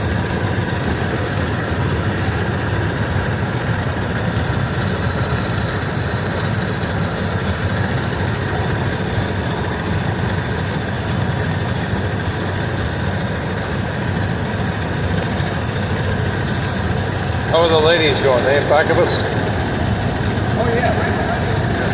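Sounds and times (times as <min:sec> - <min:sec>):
car engine running: 0:00.0 - 0:21.9
road and wind noise: 0:00.0 - 0:21.9.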